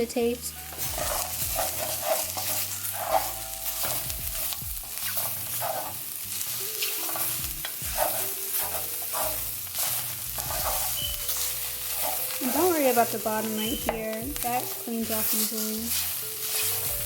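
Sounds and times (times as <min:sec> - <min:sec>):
vegetables sizzling in a frying pan: 0:00.0 - 0:17.0
utensil scraping a pan: 0:00.5 - 0:17.0.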